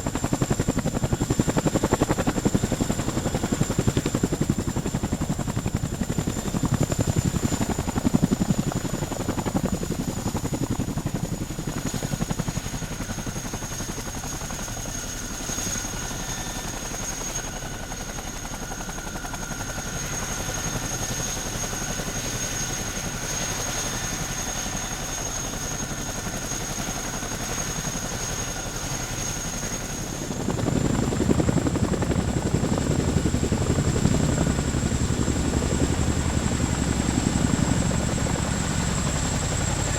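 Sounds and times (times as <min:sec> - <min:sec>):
helicopter rotor chop: 0:00.0 - 0:39.9.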